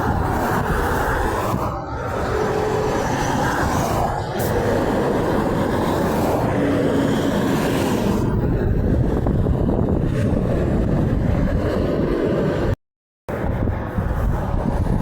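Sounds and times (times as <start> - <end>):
passing vehicles traffic noise: 0.0 - 15.0
wind on microphone: 0.0 - 15.0.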